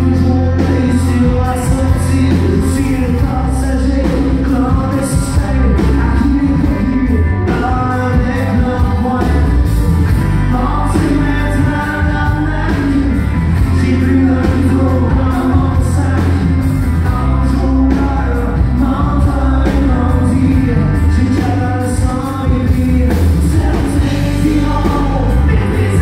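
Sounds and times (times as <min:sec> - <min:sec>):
drums: 0:00.0 - 0:26.0
guitars playing: 0:00.0 - 0:26.0
man singing lead: 0:00.0 - 0:26.0.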